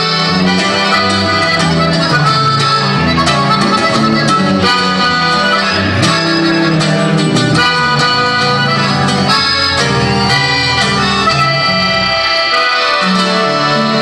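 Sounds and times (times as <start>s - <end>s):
accordion melody: 0.0s - 14.0s
electric bass: 0.0s - 14.0s
guitar: 0.0s - 14.0s.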